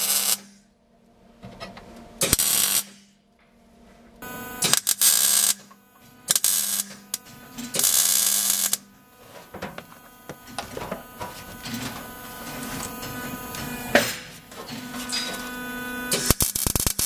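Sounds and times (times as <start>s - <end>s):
arc welding crackle: 0.0s - 0.6s, 2.2s - 3.2s, 4.2s - 17.0s
electrical hum: 0.0s - 17.0s.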